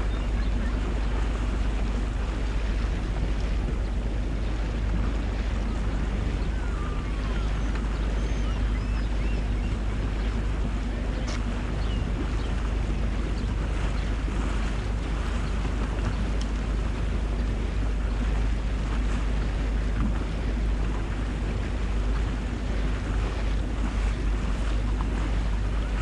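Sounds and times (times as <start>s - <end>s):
boat engine drone: 0.0s - 26.0s
water rushing along hull: 0.0s - 26.0s
wind buffeting microphone: 0.0s - 26.0s.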